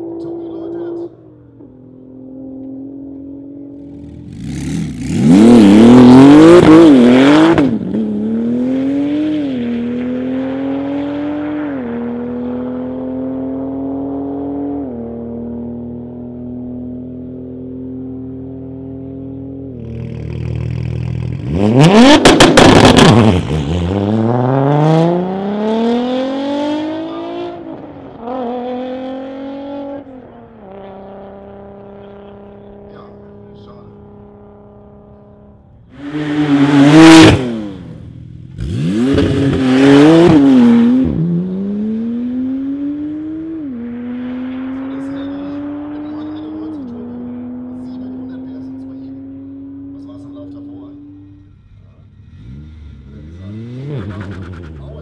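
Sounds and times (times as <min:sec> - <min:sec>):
cars passing at speed: 0:00.0 - 0:55.0.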